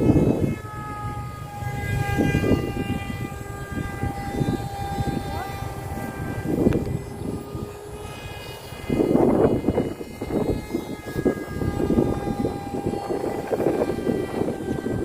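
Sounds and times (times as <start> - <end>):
model airplane propeller whining: 0.0 - 15.0
wind buffeting microphone: 0.0 - 15.0.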